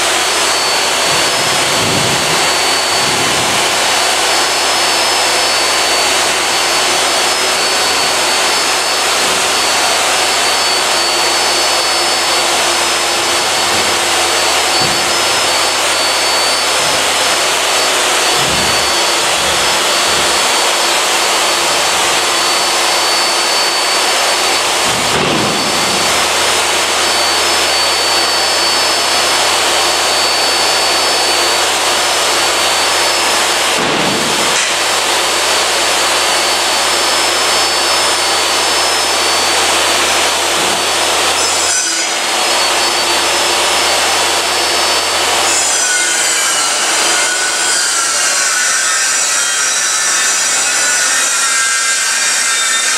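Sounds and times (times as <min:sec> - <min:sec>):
machine rushing noise: 0:00.0 - 0:45.3
faint steady whine: 0:00.0 - 0:45.4.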